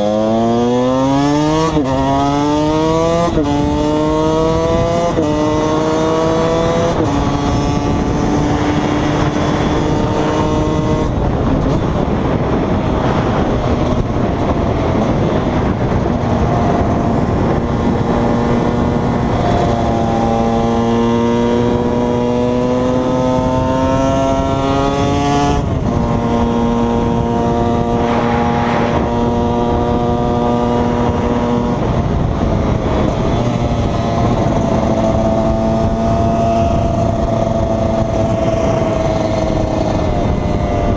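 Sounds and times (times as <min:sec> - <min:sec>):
two-stroke motorcycle engine revving: 0:00.0 - 0:40.9.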